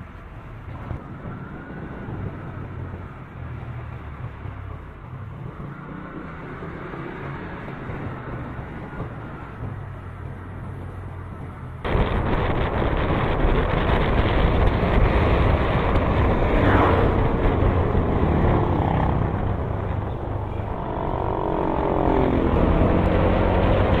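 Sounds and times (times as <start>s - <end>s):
vehicle road noise: 0.0s - 24.0s.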